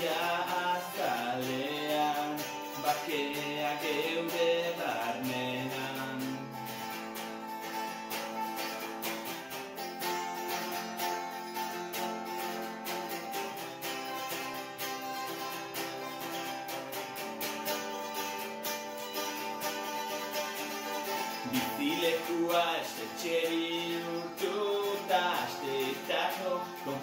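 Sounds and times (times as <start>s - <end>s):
electric guitar strumming chords: 0.0s - 27.0s.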